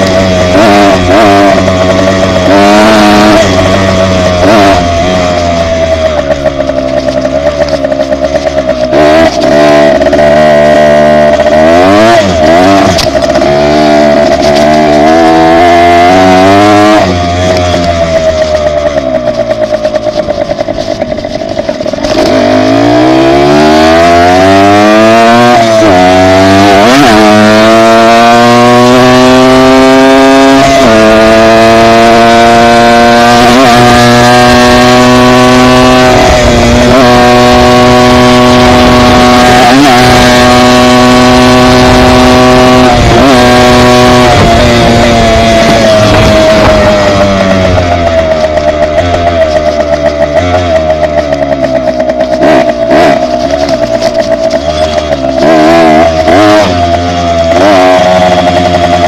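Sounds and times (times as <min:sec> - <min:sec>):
dirt bike engine accelerating: 0:00.0 - 0:59.0.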